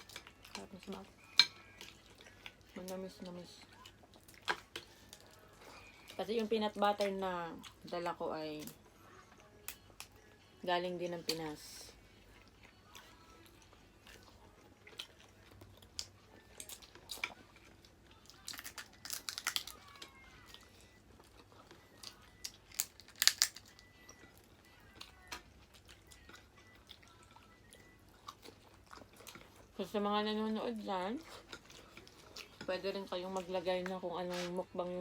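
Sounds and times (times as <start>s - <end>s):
crunching and chewing seafood: 0.0s - 10.5s, 11.1s - 35.0s.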